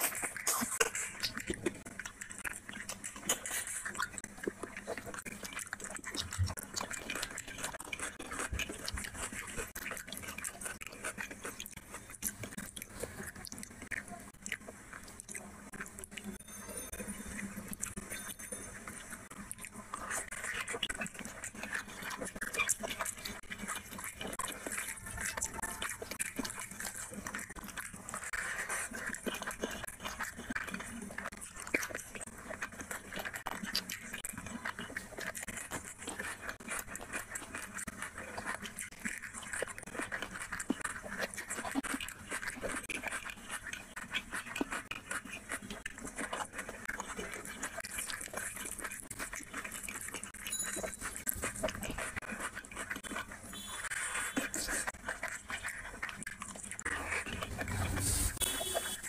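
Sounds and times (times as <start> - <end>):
chewing and lip-smacking: 0.0 - 59.0.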